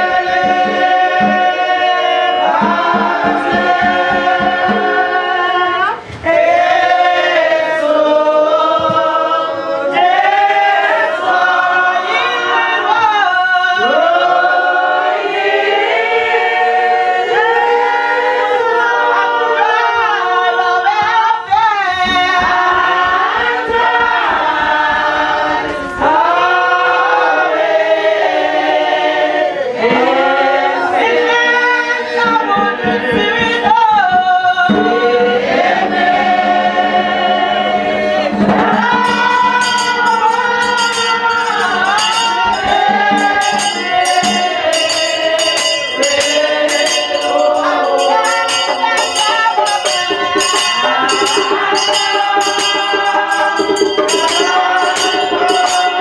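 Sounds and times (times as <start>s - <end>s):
low quick beat: 0.0s - 12.4s, 20.9s - 27.8s, 29.8s - 56.0s
congregation singing a hymn: 0.0s - 56.0s.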